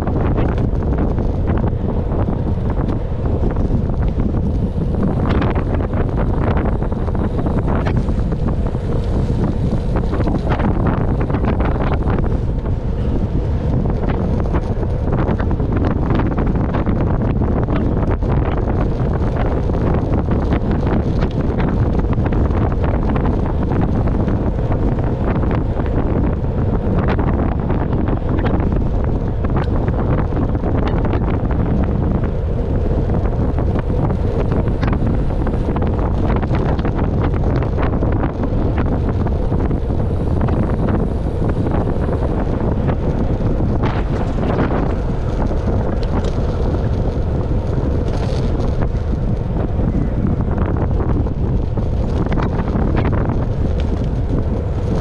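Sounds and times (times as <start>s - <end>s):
short crackles: 0.0s - 55.0s
wind buffeting microphone: 0.0s - 55.0s.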